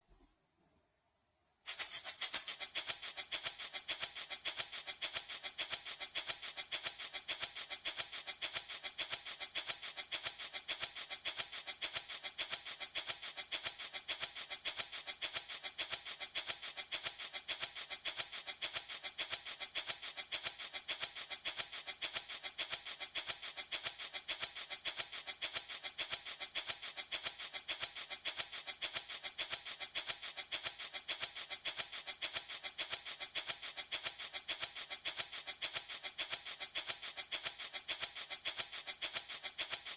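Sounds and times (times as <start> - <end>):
wooden baby rattle shaken: 1.7 - 39.9.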